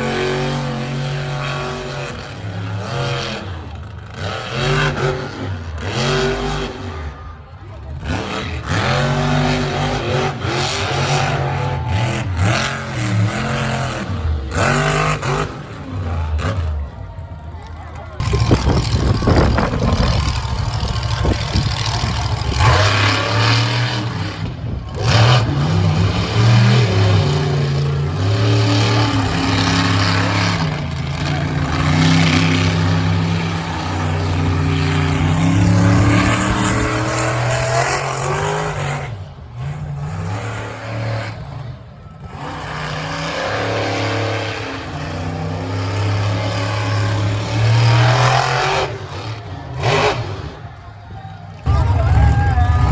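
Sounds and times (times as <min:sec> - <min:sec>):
truck engine revving hard: 0:00.0 - 0:52.9.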